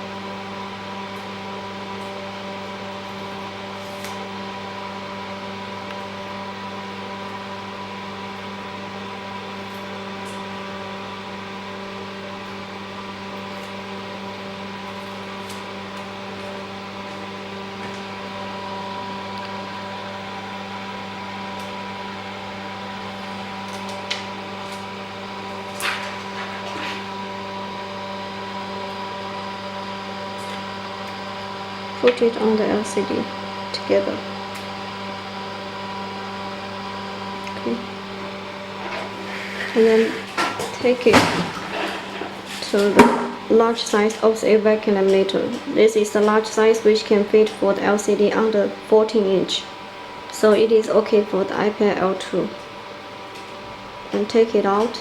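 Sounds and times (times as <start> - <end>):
electrical hum of equipment: 0.0 - 55.0.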